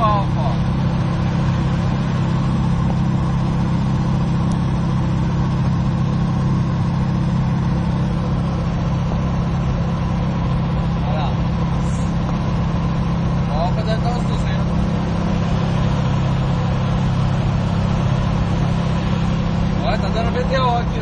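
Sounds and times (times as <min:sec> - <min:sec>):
road noise: 0:00.0 - 0:21.0
van engine running: 0:00.0 - 0:21.0.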